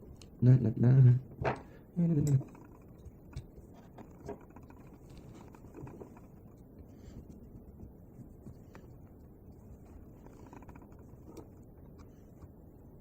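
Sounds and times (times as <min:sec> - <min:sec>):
low steady background: 0:00.0 - 0:13.0.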